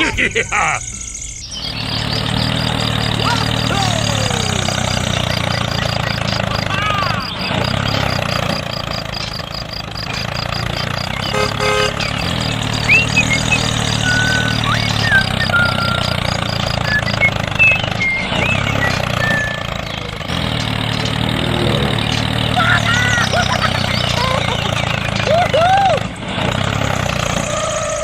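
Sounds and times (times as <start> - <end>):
high whistling chirps: 0.0 - 28.0
engine idling: 1.1 - 28.0.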